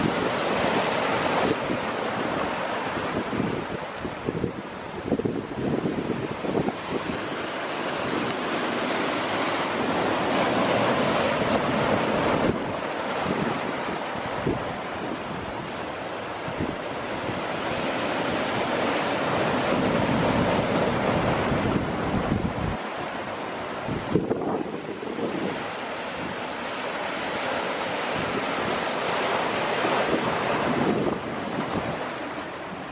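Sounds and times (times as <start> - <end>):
surf breaking on rocks: 0.0 - 32.9.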